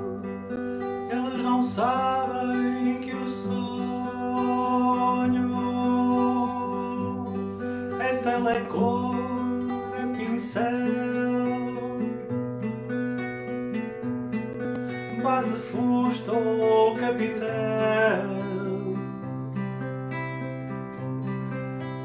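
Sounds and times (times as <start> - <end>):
acoustic guitar background music: 0.0 - 22.0.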